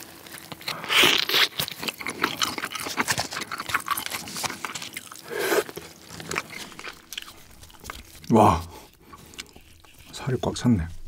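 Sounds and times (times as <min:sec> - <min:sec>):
wet chewing mouth sounds: 0:00.0 - 0:11.0.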